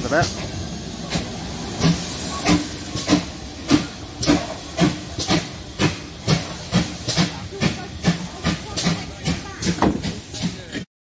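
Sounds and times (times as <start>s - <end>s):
steady hiss of steam: 0.0s - 10.9s
steam locomotive chuffing: 0.0s - 10.9s.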